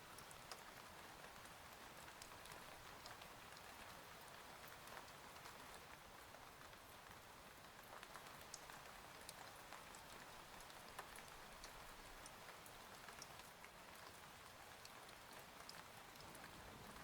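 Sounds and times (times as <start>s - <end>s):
rain drops ticking: 0.0s - 17.0s.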